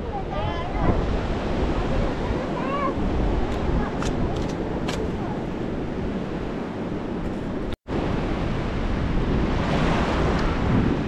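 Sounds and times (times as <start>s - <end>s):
sea surf washing on beach: 0.0s - 11.0s
wind buffeting microphone: 0.0s - 11.0s.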